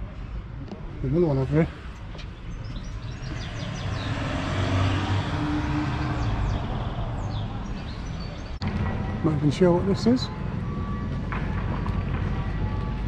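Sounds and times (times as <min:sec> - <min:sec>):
vehicle engine hum passing: 0:01.2 - 0:13.0.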